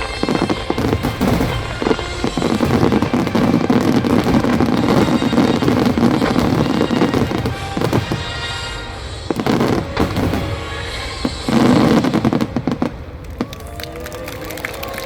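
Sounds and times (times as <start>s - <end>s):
music playing: 0.0s - 12.6s
heavy firework booms: 0.0s - 13.5s
fireworks bursting and crackling: 0.0s - 15.0s.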